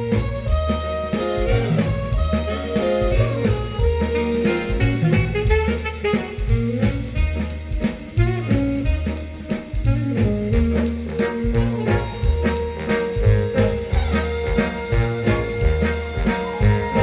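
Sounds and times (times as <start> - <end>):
instrumental jazz over loudspeakers: 0.0 - 17.0.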